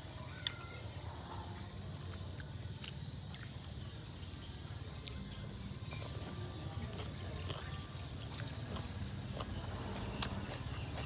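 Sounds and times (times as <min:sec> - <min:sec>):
chewing and mouth sounds: 0:01.3 - 0:11.0.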